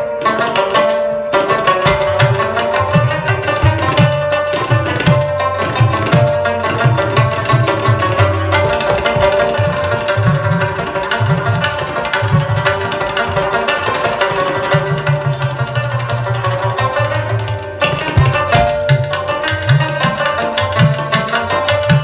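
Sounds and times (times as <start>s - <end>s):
plucked melodic instruments: 0.0s - 22.0s
hand drum rhythm: 0.3s - 22.0s.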